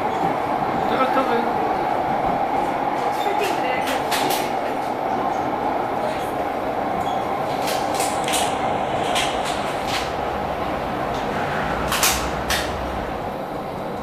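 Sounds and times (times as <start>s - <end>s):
people-mover car running: 0.0s - 14.0s.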